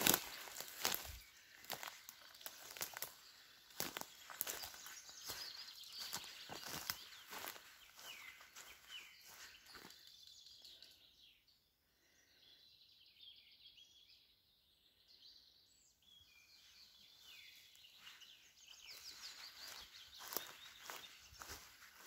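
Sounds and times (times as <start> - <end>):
faint birdsong chirps and trills: 0.0 - 22.0.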